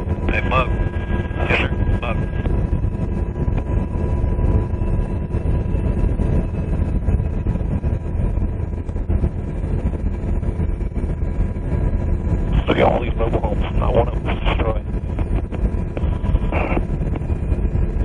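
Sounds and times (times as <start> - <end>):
faint turbine whine: 0.0 - 18.0
helicopter rotor and turbine drone: 0.0 - 18.0.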